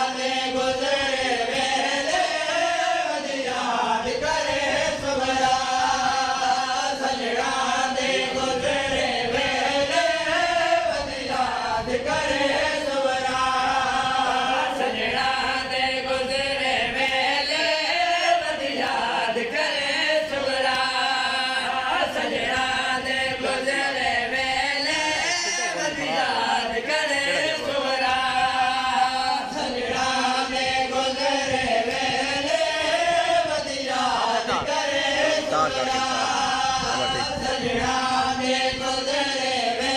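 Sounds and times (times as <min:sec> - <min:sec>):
men chanting through loudspeaker: 0:00.0 - 0:39.9.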